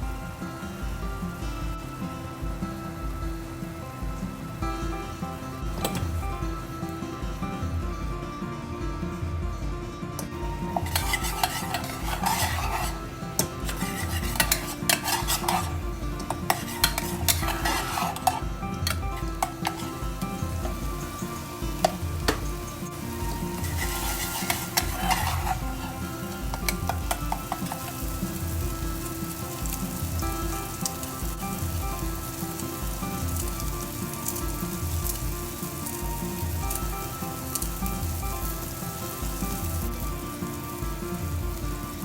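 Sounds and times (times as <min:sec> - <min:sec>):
food sizzling in a pan: 0:00.0 - 0:09.5, 0:10.1 - 0:42.0.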